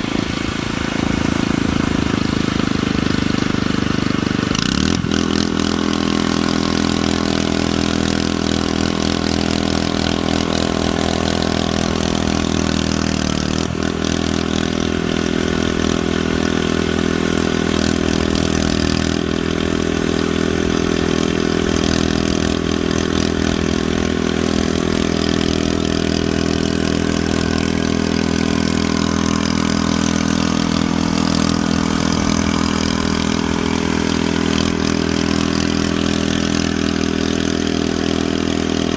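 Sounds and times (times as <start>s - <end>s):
steady mechanical drone: 0.0s - 38.9s.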